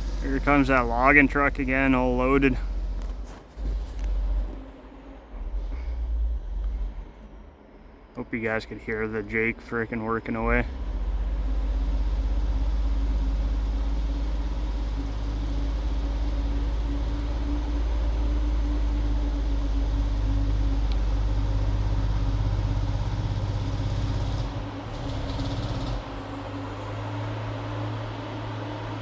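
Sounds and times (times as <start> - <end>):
heavy diesel truck engine drone: 0.0 - 29.0.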